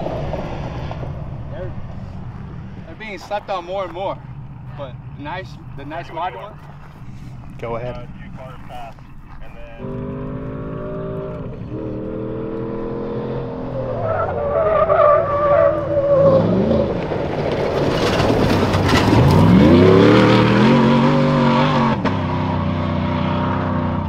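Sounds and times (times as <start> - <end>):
tires spraying dirt: 0.0 - 24.0
truck engine revving: 0.0 - 24.0.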